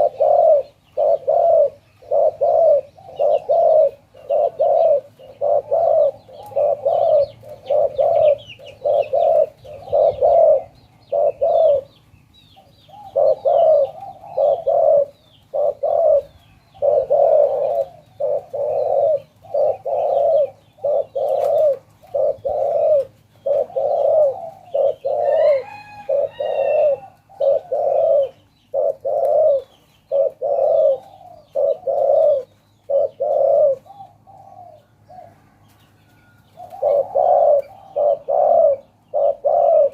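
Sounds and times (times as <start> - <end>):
dove cooing: 0.0 - 35.7, 36.3 - 39.9
small birds chirping: 0.0 - 39.9.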